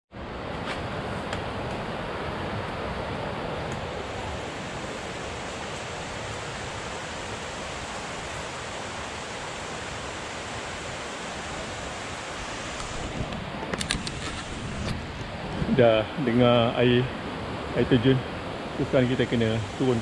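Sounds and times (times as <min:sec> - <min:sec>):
waterfall rushing: 0:00.9 - 0:20.0.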